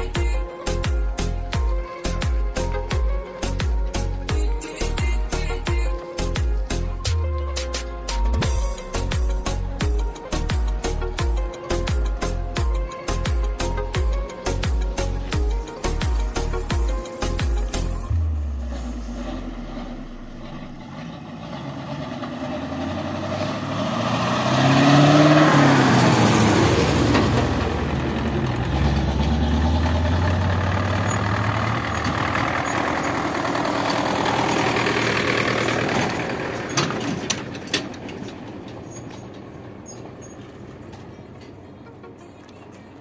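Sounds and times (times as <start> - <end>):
dump truck passing: 0.0 - 43.0
tractor engine passing: 0.0 - 43.0.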